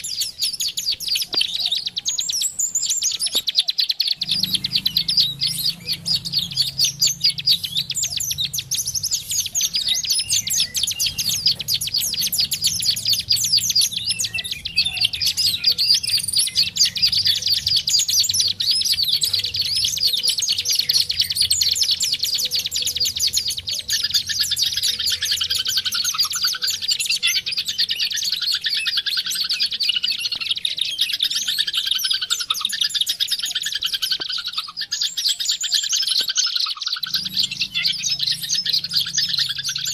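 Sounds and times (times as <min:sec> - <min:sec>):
lower sweeping bird chirps: 0:00.0 - 0:39.9
rapid high bird twittering: 0:00.0 - 0:39.9.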